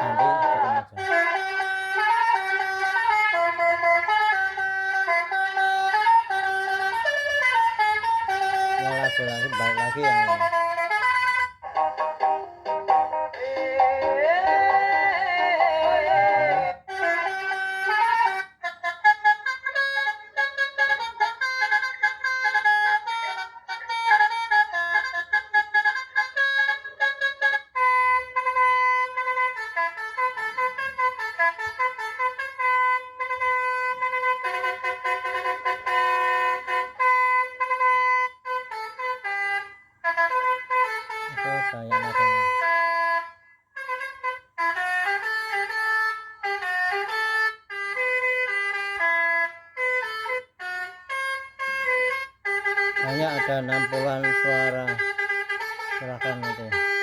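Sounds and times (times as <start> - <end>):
electronic bus horn melody: 0.0 - 14.9, 15.8 - 57.0.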